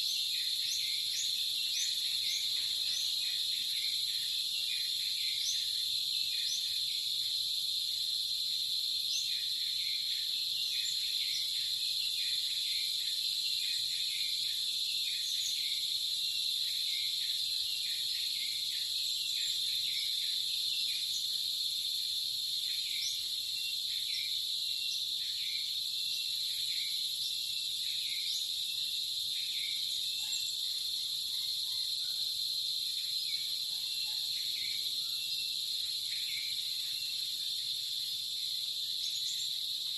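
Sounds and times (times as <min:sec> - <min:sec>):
insect chirps: 0:00.0 - 0:39.9
insects high-pitched trill: 0:00.0 - 0:39.9.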